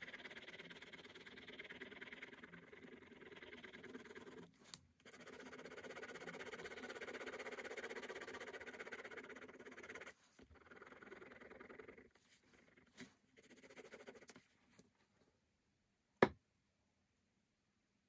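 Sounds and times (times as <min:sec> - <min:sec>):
ballpoint pen scratching on paper: 0:00.0 - 0:14.8.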